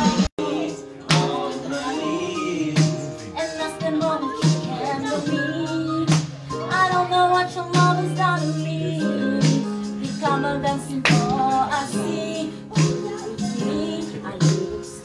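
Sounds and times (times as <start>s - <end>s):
karaoke pop track: 0.0s - 15.0s
person singing: 0.0s - 15.0s.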